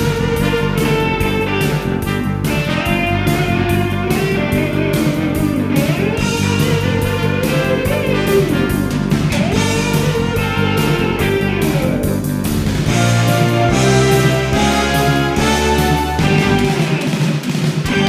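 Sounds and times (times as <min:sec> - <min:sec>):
guitar rock music: 0:00.0 - 0:18.0.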